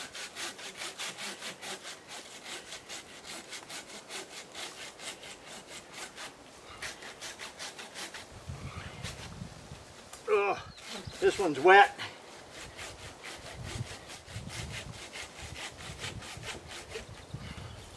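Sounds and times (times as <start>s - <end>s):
hand saw rasping through wood: 0.0s - 8.3s, 10.7s - 17.3s.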